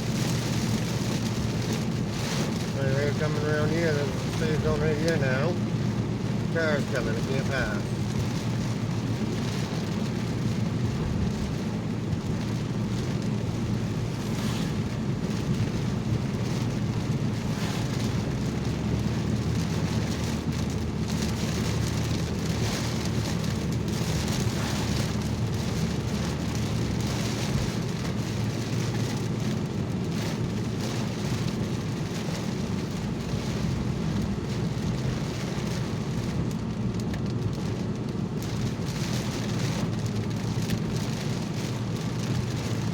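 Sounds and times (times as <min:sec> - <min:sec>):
car engine and road noise: 0:00.0 - 0:42.9
rain on a car roof: 0:00.0 - 0:42.9.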